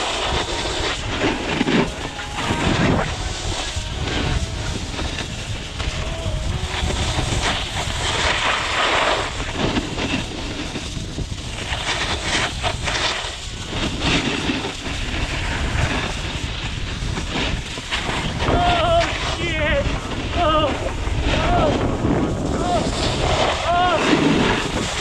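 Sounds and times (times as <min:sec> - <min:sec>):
snowboard scraping over snow: 0:00.0 - 0:25.0
wind rumbling on microphone: 0:00.0 - 0:25.0.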